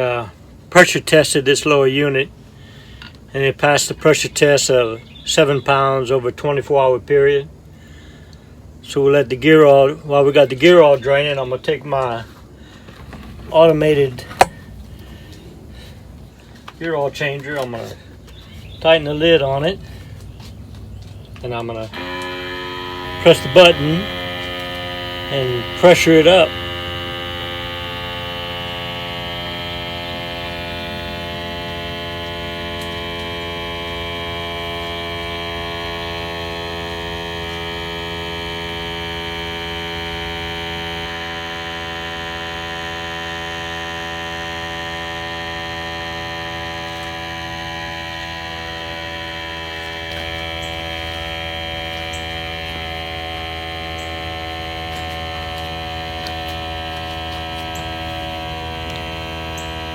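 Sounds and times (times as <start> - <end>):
electric pump motor humming: 10.6 - 59.9.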